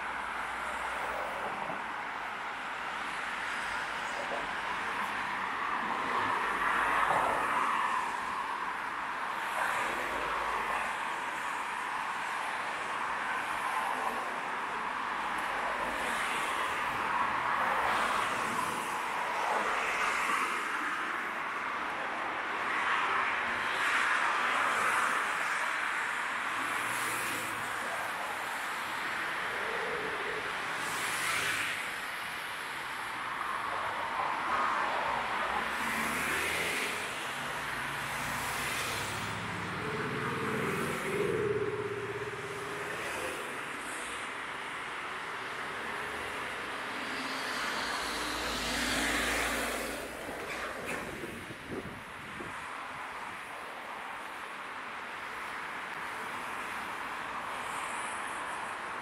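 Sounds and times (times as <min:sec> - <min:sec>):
cars passing: 0:00.0 - 0:59.0
road traffic hiss: 0:00.0 - 0:59.0.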